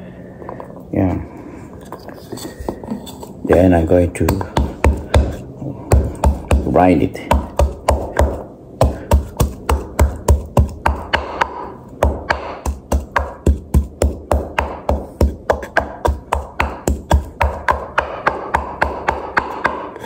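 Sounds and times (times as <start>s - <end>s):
pestle pounding in wooden mortar: 3.4s - 20.0s.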